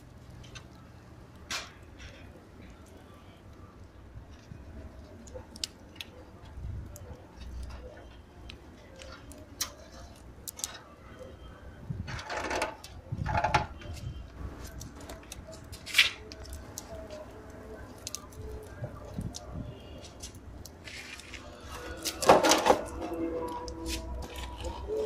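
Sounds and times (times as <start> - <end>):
fire crackling: 0.0 - 25.0.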